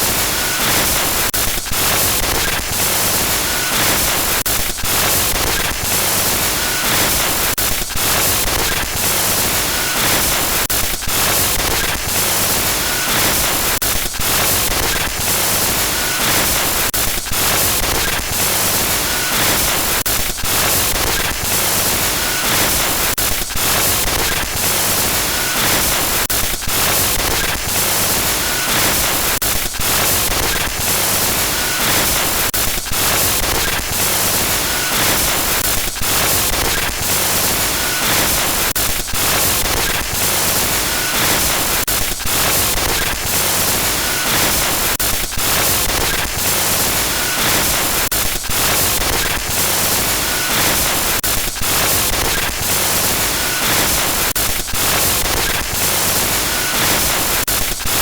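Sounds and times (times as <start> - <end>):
loud glitchy static hiss: 0.0 - 58.0.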